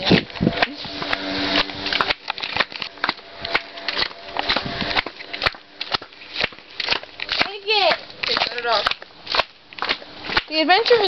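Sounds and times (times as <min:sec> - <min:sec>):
footsteps on stony path: 0:00.0 - 0:11.0.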